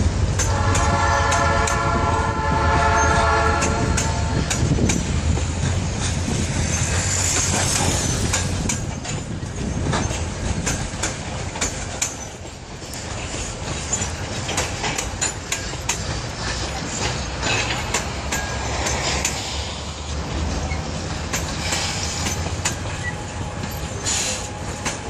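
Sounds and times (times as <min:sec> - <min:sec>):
train wheels rumbling on rail: 0:00.0 - 0:25.0
wheels clicking over rail joints: 0:03.0 - 0:25.0.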